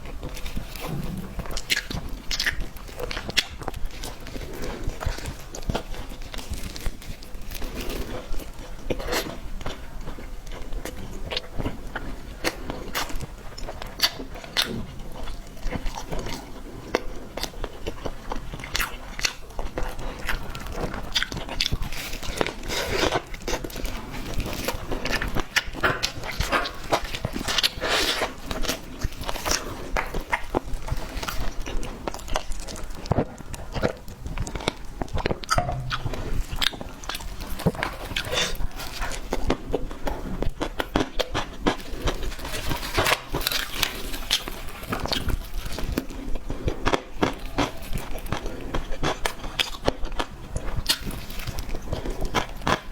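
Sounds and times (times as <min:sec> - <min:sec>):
biting and chewing cake: 0:00.0 - 0:52.9.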